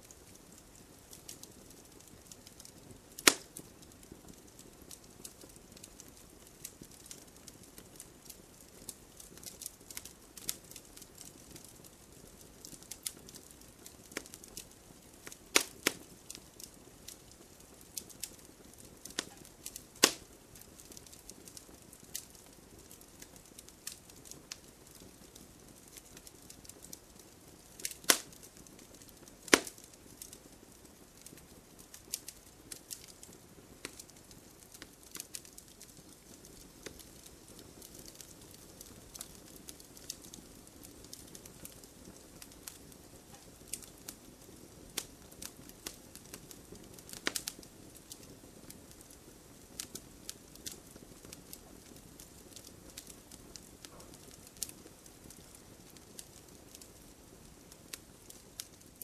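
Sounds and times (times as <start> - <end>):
faint steady hiss: 0.0 - 59.0
wood fire crackling and popping: 0.0 - 59.0.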